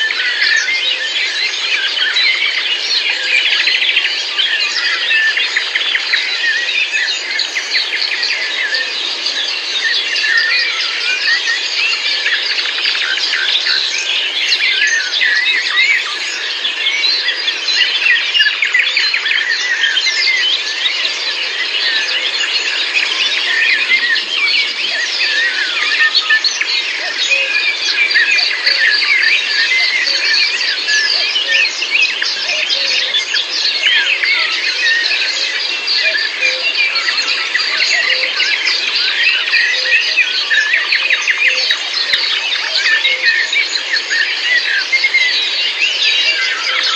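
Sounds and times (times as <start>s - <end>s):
songbird chorus: 0.0s - 46.9s.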